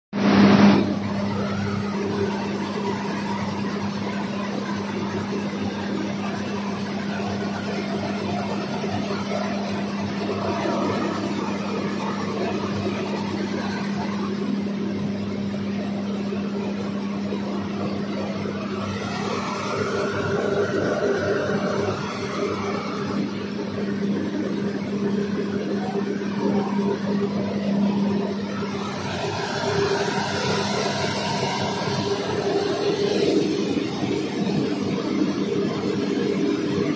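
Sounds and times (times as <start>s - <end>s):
machine hum: 0.2s - 36.9s.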